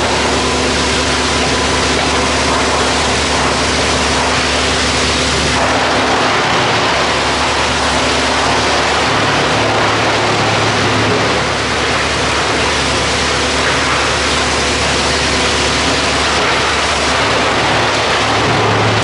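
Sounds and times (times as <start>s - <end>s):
wood chipper running: 0.0s - 19.0s.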